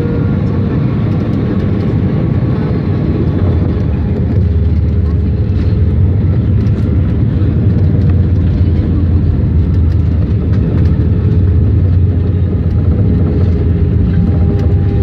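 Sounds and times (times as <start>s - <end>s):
aircraft engines rumbling: 0.0s - 15.0s.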